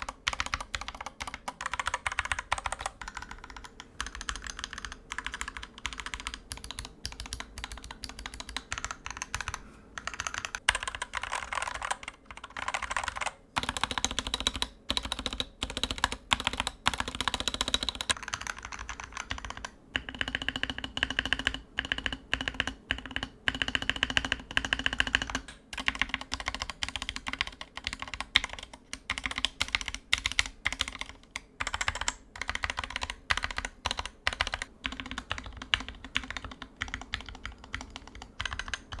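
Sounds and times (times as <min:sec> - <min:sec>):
fast mechanical keyboard typing: 0:00.0 - 0:39.0.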